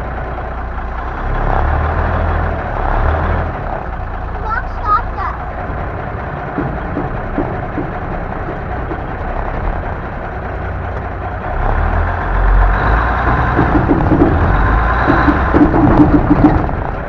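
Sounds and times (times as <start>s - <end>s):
diesel truck engine driving: 0.0s - 17.0s.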